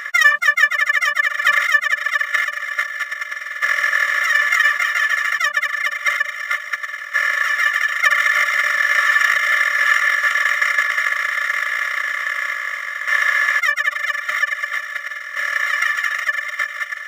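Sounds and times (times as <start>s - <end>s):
high-pitched squealing buzz: 0.0s - 17.0s.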